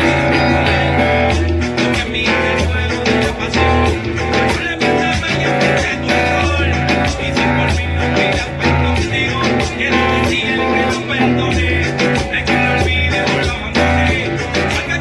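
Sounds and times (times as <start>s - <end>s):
electric guitar picking: 0.0s - 15.0s
reggaeton backing track: 0.0s - 15.0s.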